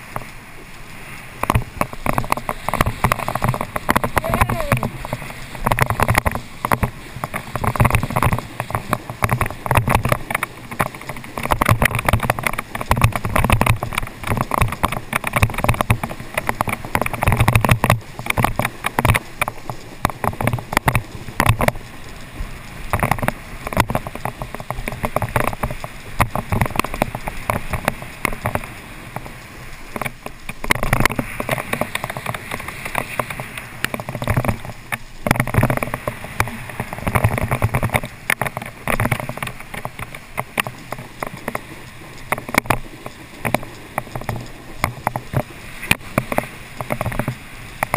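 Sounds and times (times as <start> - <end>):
wind buffeting camera: 0.0 - 47.9.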